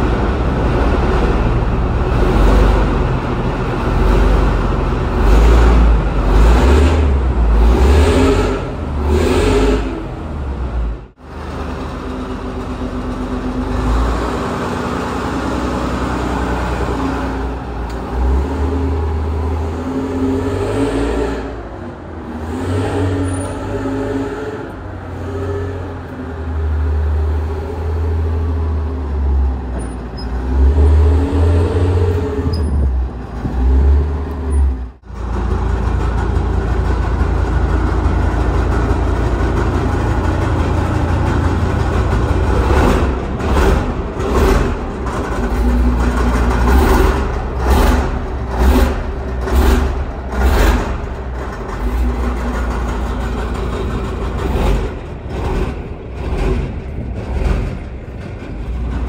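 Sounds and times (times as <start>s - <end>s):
large petrol engine running: 0.0s - 59.0s.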